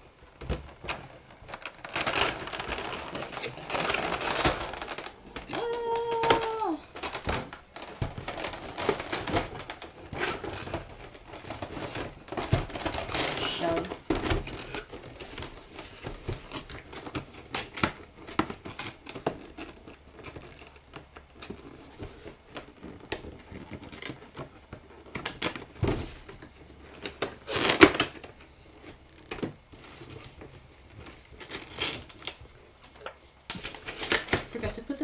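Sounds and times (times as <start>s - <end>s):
cardboard and plastic packaging handled: 0.0s - 35.0s.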